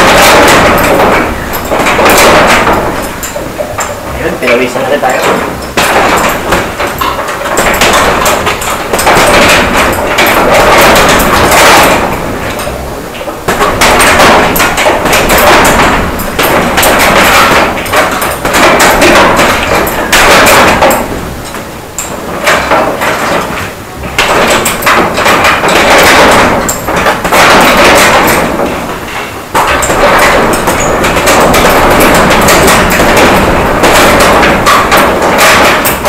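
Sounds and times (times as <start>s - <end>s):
boxing gloves punching heavy bag: 0.0s - 36.0s.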